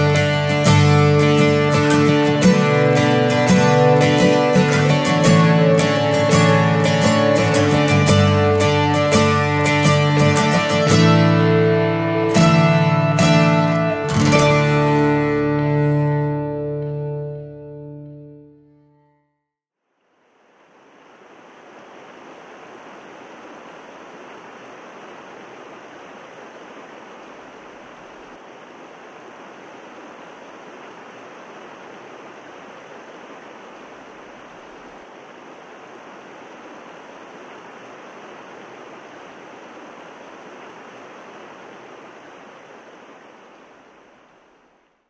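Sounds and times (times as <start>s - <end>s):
rushing water: 0.0s - 17.2s, 20.0s - 45.0s.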